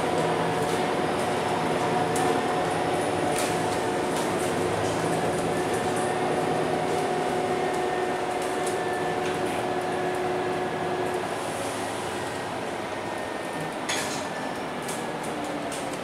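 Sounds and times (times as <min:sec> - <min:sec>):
bus drivetrain hum: 0:00.0 - 0:16.0.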